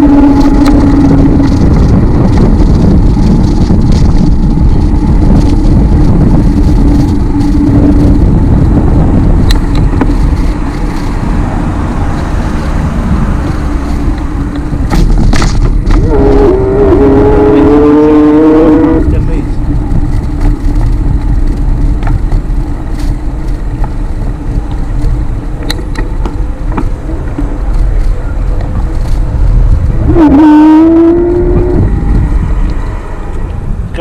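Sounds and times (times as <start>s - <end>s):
steady hum: 0.0s - 34.0s
tyre and road noise: 0.0s - 34.0s
wind buffeting microphone: 0.0s - 34.0s.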